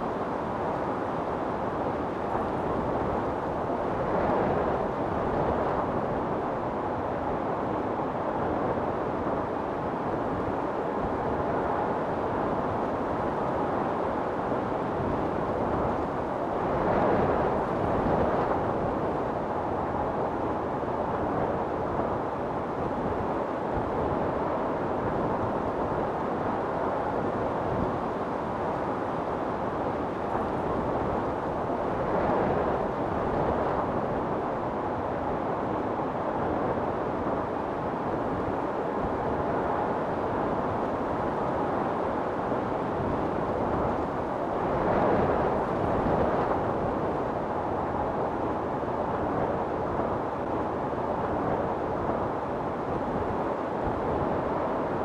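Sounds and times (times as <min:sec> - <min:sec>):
storm wind blowing hard: 0:00.0 - 0:55.0.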